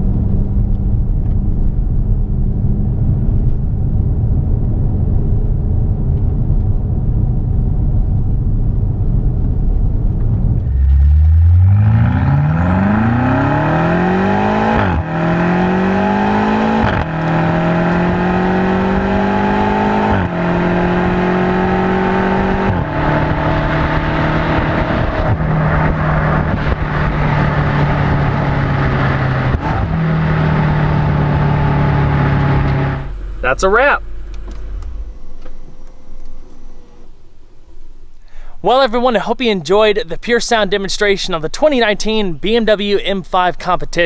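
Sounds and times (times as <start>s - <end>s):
car engine accelerating with gear changes: 0.0s - 8.3s, 8.9s - 38.4s.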